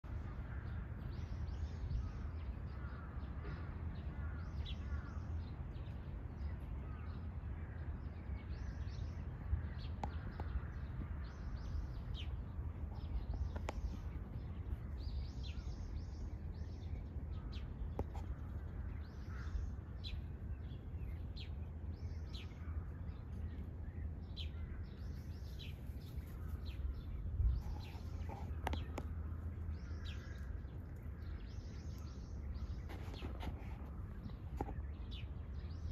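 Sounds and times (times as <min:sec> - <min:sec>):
low outdoor rumble: 0:00.0 - 0:35.9
small birds chirping: 0:00.0 - 0:35.9.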